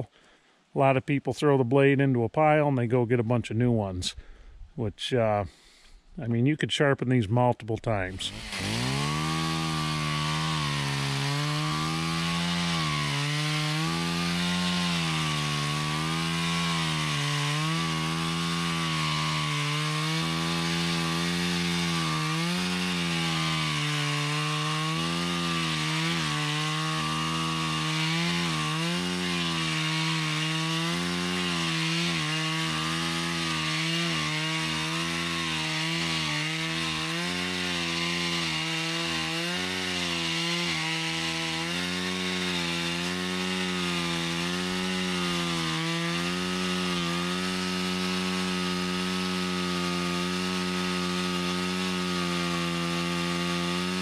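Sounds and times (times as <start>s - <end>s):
chainsaw cutting under load: 7.9s - 54.0s.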